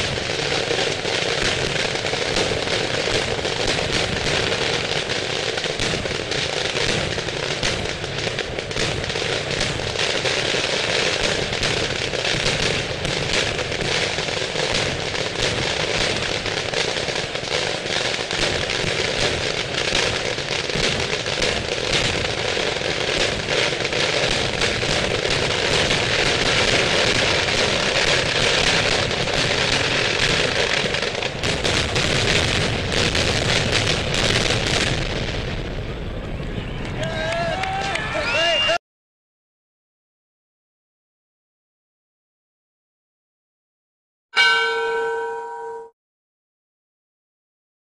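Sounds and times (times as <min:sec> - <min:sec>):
firecrackers going off: 0:00.0 - 0:38.8.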